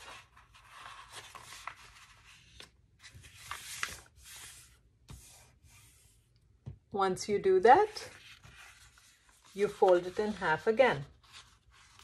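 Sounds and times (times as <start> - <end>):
paper rustling and sliding: 0.0 - 6.3, 7.9 - 12.0.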